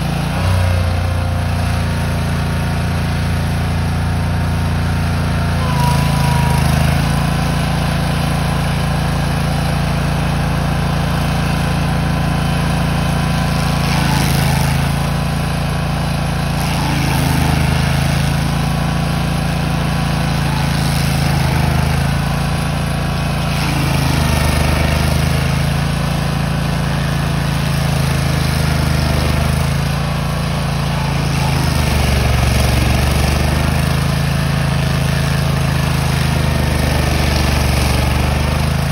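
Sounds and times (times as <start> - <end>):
cutter wheel grinding stump: 0.0 - 38.9
stump grinder engine at full throttle: 0.0 - 38.9.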